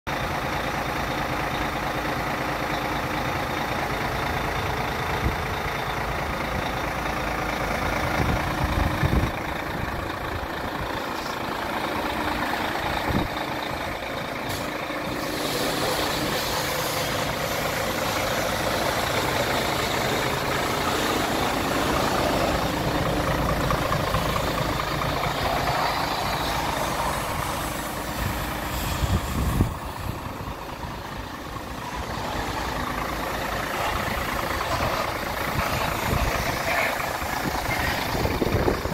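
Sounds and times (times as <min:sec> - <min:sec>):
diesel truck idling: 0:00.1 - 0:38.9.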